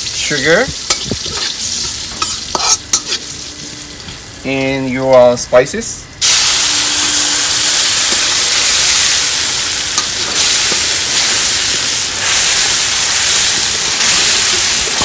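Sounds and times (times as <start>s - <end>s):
mixture sizzling in hot oil: 0.0s - 4.6s, 6.2s - 15.0s.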